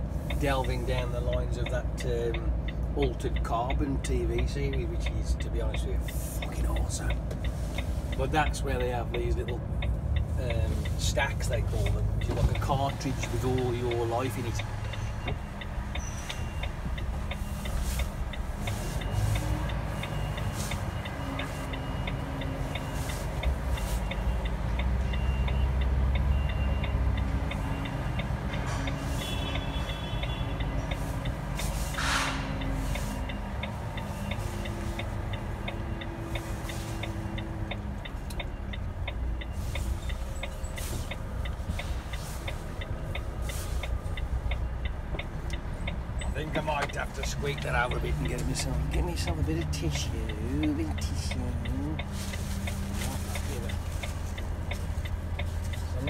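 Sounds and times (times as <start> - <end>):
diesel engine and road rumble: 0.0 - 56.0
fine regular ticking: 0.0 - 56.0.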